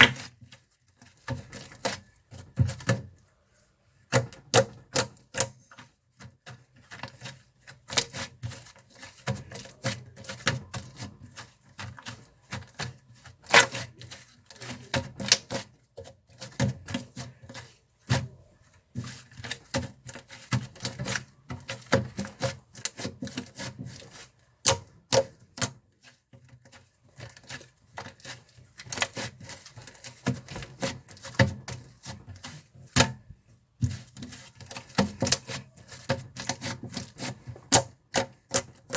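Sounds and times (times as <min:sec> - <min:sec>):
soft rubbing of slime: 0:00.0 - 0:04.2, 0:05.6 - 0:24.6, 0:25.9 - 0:37.7.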